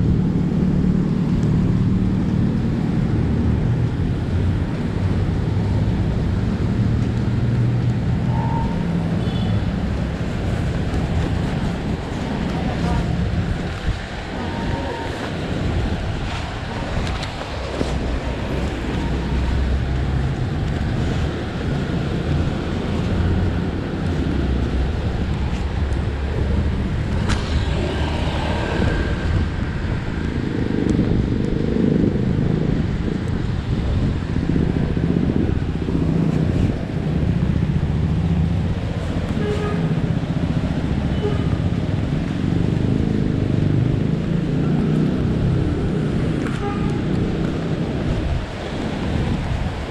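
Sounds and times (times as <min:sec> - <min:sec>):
scooter engine and road rumble: 0:00.0 - 0:49.9
wind on microphone: 0:00.0 - 0:49.9.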